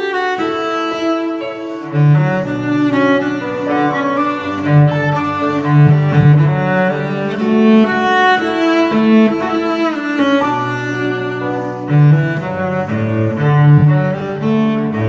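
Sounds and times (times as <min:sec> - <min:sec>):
slow bowed string melody: 0:00.0 - 0:15.0.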